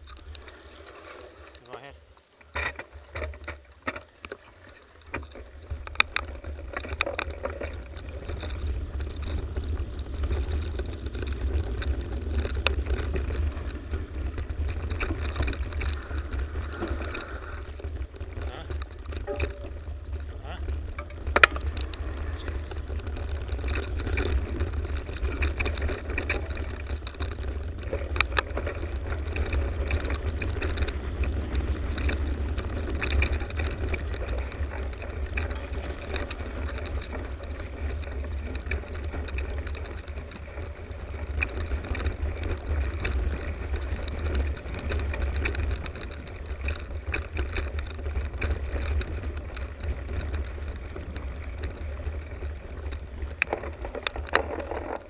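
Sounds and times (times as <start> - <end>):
bike rattling: 0.0 - 55.0
bike tyres on dirt: 0.0 - 55.0
clicks and knocks over bumps: 0.0 - 55.0
steady low rumble: 4.9 - 55.0.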